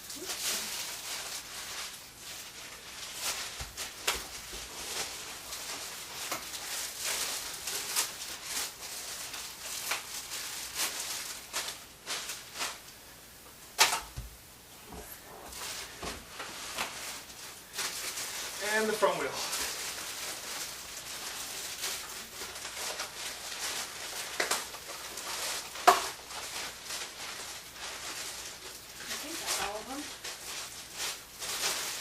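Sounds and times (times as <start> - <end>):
packaging rustling: 0.0 - 12.9, 15.4 - 32.0.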